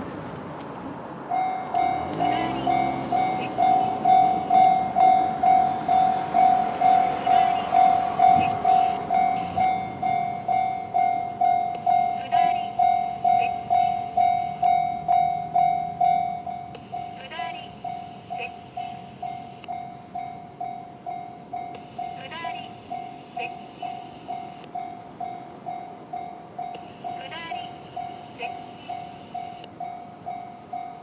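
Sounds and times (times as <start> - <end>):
car passing: 0.0 - 31.0
level-crossing alarm bell: 1.3 - 31.0.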